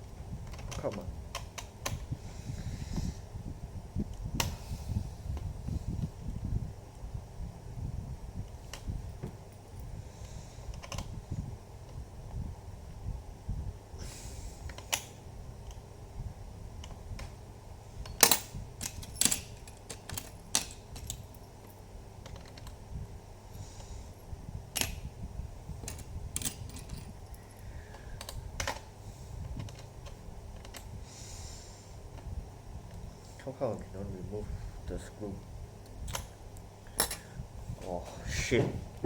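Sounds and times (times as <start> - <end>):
handling rumble: 0.0 - 39.0.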